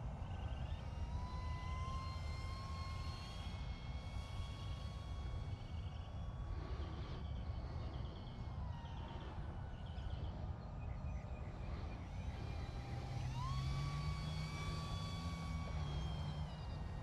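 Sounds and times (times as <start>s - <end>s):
distant electric motor whine: 0.0s - 17.0s.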